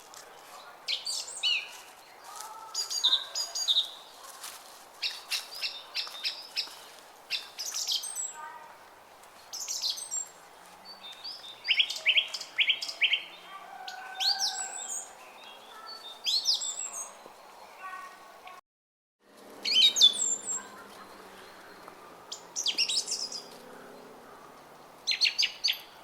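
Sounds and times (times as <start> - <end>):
songbirds chirping: 0.0 - 18.6, 19.3 - 26.0.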